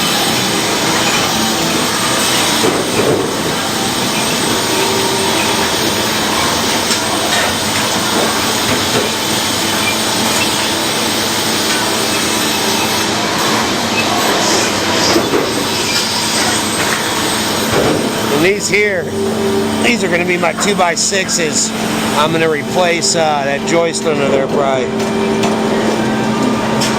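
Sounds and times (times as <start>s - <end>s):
sawmill saw cutting log: 0.0s - 24.3s.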